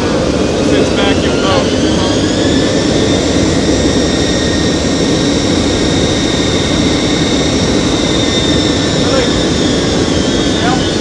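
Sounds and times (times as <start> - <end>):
jet engines droning: 0.0 - 11.0
steady high whine: 0.0 - 11.0.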